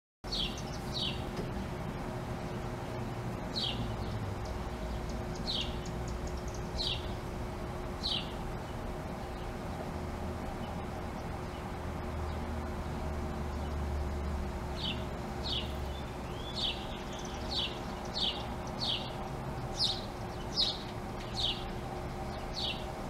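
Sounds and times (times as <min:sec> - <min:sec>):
distant traffic rumble: 0:00.2 - 0:23.0
small songbird chirping: 0:00.3 - 0:01.4, 0:02.4 - 0:23.0.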